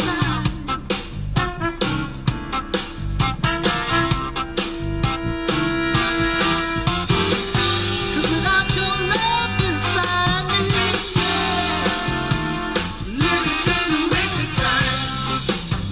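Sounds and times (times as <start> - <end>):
rock song through car speakers: 0.0 - 15.9.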